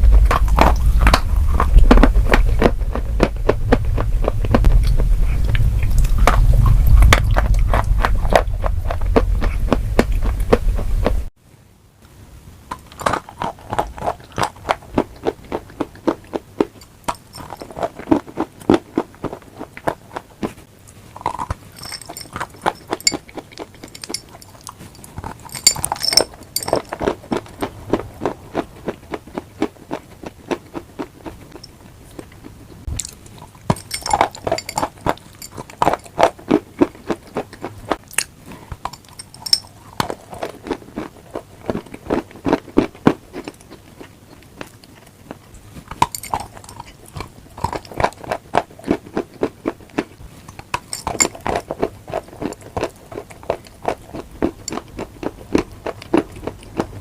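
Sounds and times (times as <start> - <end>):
crunchy chewing: 0.0 - 11.2, 12.7 - 57.0.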